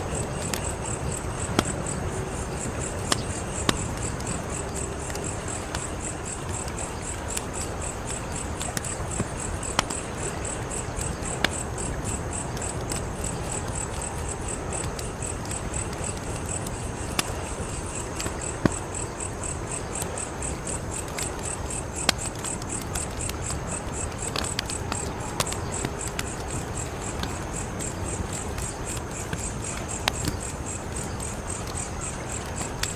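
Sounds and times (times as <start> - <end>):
crickets chirping: 0.0 - 32.9
wood fire crackling: 0.0 - 32.9.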